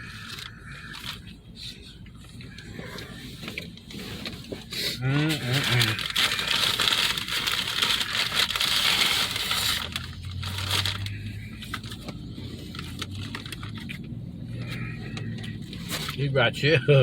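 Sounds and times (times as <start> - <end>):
food packaging crinkling: 2.5 - 16.2.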